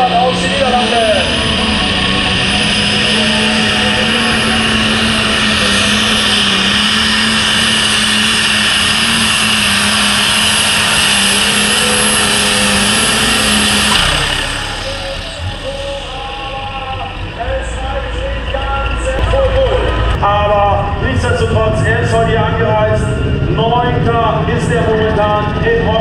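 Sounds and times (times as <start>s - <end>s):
high whine: 0.0s - 26.0s
tractor engine running flat out: 0.0s - 26.0s.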